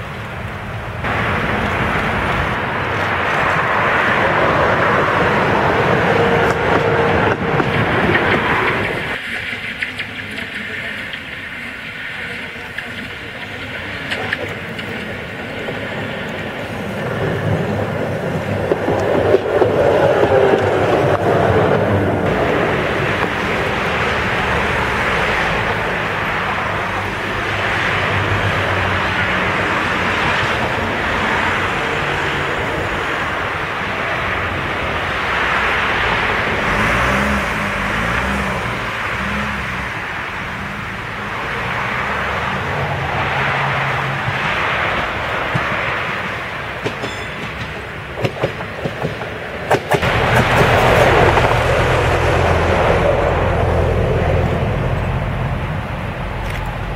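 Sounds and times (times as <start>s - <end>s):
road traffic: 0.0s - 56.9s
tram wheels rumbling on rails: 0.0s - 56.9s.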